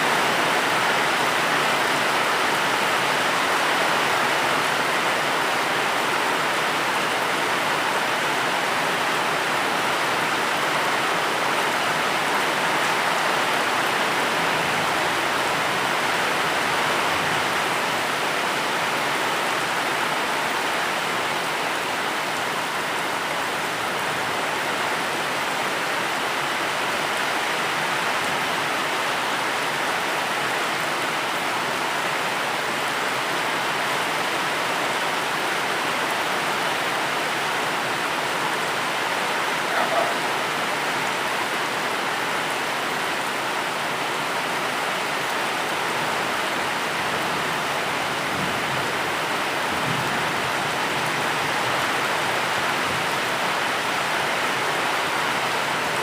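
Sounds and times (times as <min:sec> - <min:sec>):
dense rainfall hiss: 0:00.0 - 0:56.0.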